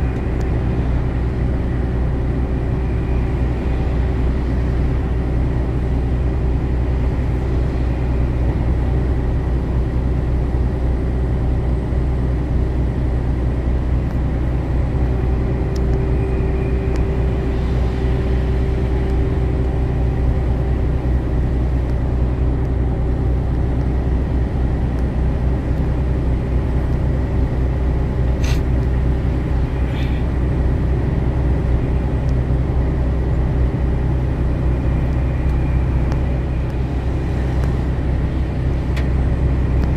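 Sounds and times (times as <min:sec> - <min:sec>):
in-cab vehicle drone: 0:00.0 - 0:39.9.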